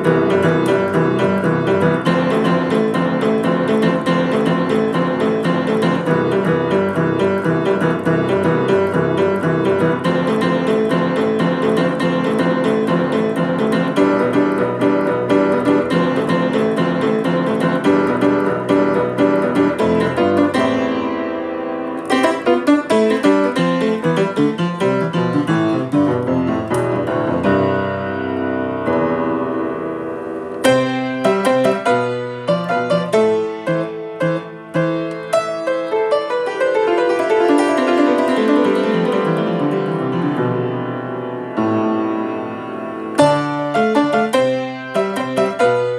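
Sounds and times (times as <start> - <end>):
piano playing: 0.0 - 45.9.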